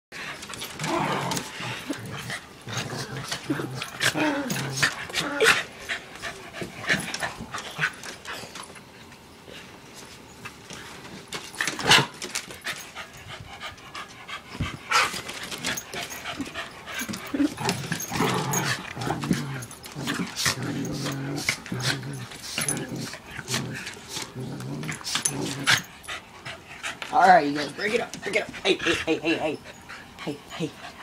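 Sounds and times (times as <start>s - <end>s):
dogs playing: 0.1s - 31.0s.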